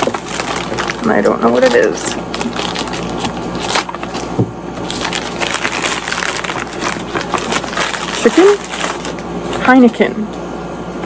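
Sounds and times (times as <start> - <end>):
packaging rustling and crinkling: 0.0 - 9.8.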